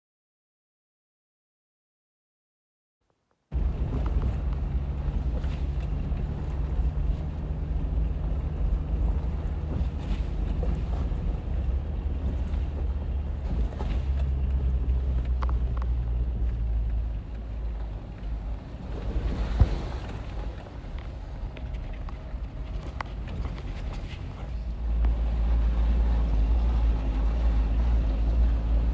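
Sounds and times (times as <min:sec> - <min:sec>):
vehicle engine droning: 0:03.5 - 0:28.9.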